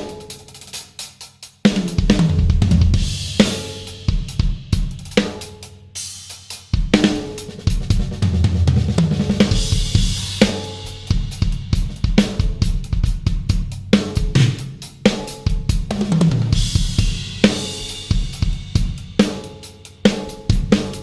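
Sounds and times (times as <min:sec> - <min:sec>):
drum kit groove: 0:00.0 - 0:21.0.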